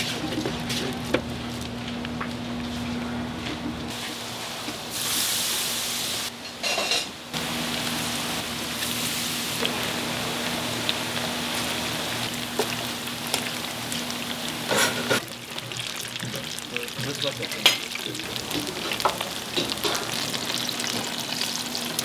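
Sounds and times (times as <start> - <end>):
food sizzling in hot oil: 3.9 - 22.0.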